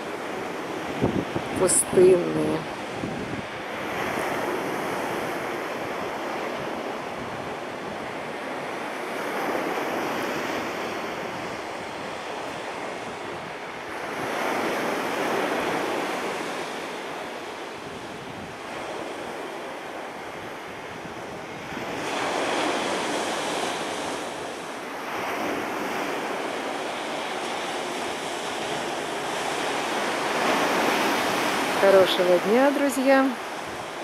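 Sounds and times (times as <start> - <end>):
surf breaking on beach: 0.0 - 34.0
wind on microphone: 0.0 - 34.0.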